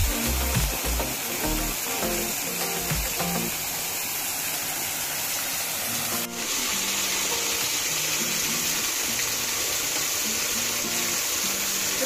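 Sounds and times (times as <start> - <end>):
small waterfall splashing: 0.0 - 12.0.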